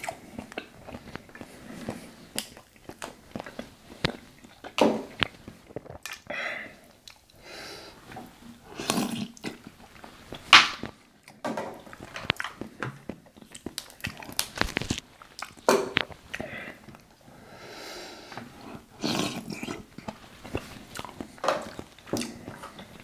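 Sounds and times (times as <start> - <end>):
chewing and lip smacking: 0.0 - 7.4, 8.8 - 17.2, 18.9 - 23.0.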